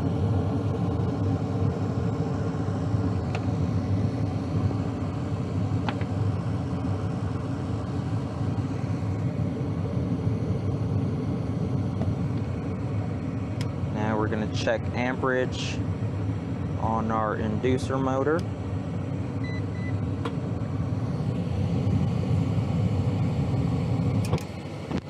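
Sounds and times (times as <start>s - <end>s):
furnace low rumble: 0.0s - 25.0s.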